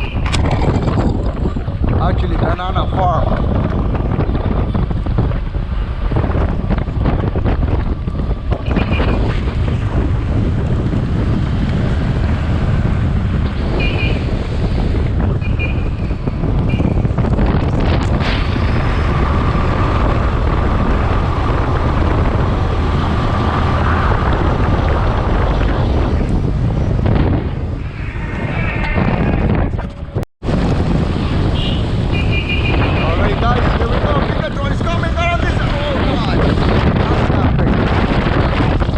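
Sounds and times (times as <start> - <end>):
motorcycle engine and road noise: 0.0 - 38.9
wind rushing over microphone: 0.0 - 38.9.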